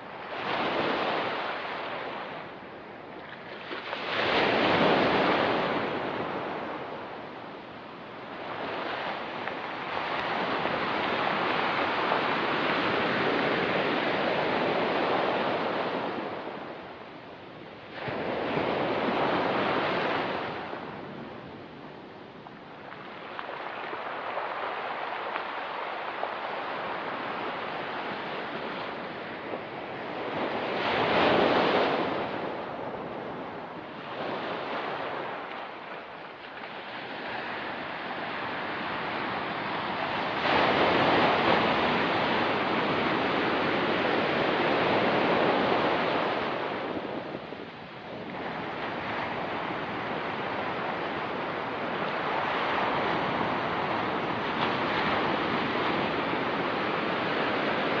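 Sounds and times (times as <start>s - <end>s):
ocean waves breaking on rocky beach: 0.0s - 17.0s, 17.8s - 58.0s.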